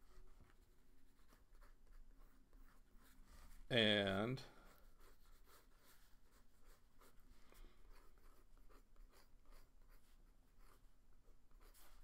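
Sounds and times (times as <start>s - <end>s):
pencil scratching on paper: 0.0s - 4.0s, 4.6s - 12.0s.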